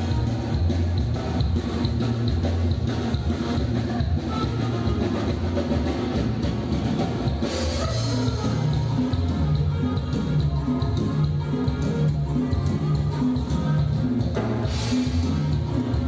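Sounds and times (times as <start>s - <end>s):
live dance band playing: 0.0s - 16.0s.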